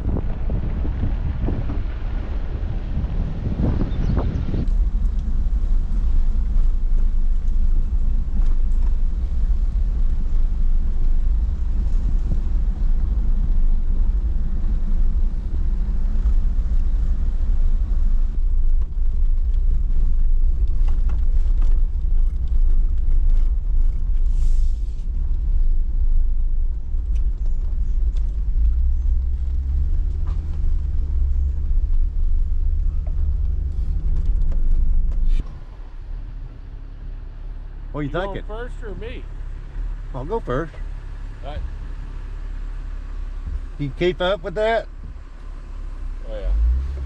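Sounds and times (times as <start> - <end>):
engine and drivetrain rumble: 0.0 - 47.0.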